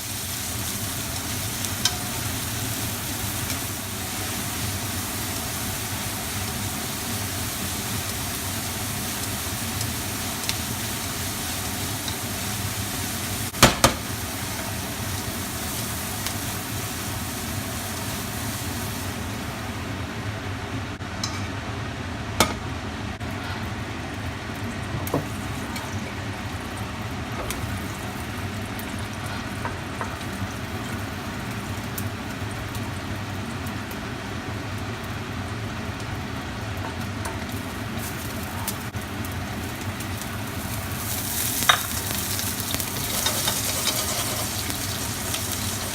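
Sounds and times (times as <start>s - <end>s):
food sizzling in a pan: 0.0s - 21.5s, 24.7s - 45.9s.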